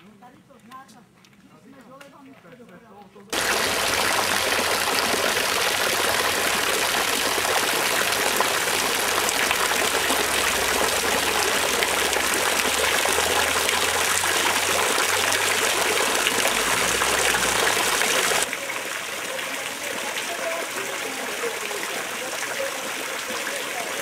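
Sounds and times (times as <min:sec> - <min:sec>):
fountain water splashing: 0:03.3 - 0:24.0.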